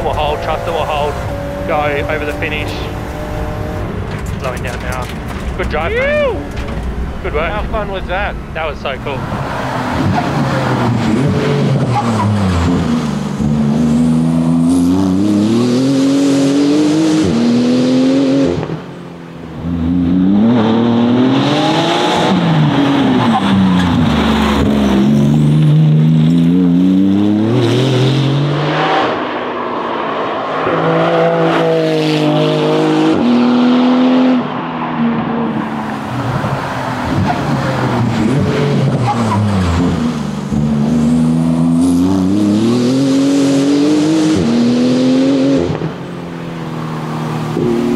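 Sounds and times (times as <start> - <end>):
sports car engine revving: 0.0 - 47.9.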